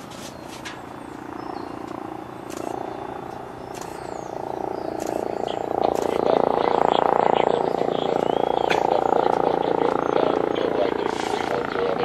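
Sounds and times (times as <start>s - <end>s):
helicopter rotor chop: 0.0s - 12.0s.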